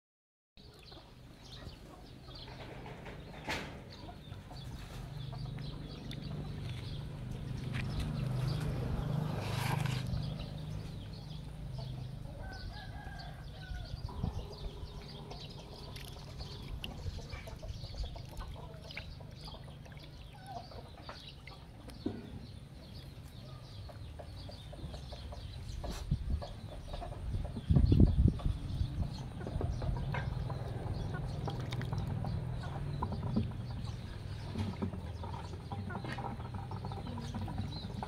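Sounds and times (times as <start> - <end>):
chickens clucking: 0.7 - 38.0.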